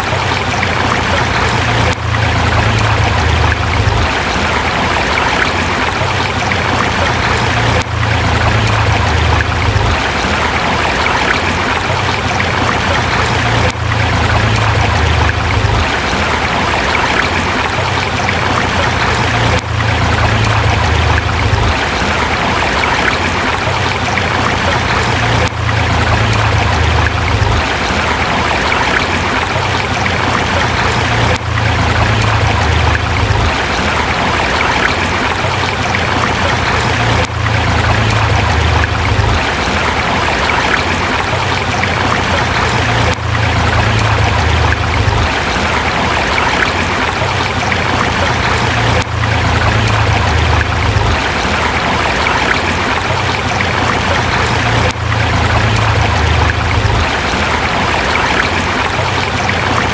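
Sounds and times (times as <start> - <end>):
low water rumble: 0.0 - 59.9
river rushing over rocks: 0.0 - 59.9.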